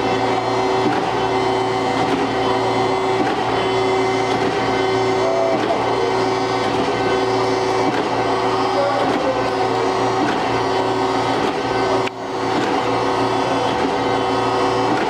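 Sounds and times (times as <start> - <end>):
surface grinder humming: 0.0 - 15.0.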